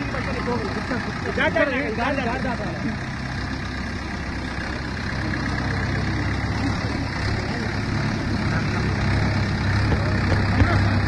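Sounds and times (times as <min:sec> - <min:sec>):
people's voices: 0:00.0 - 0:11.0
tractor diesel engine idling: 0:00.0 - 0:11.0.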